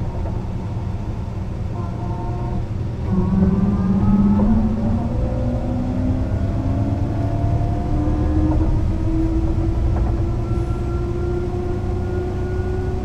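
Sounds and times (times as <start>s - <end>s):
bus engine accelerating: 0.0s - 13.0s.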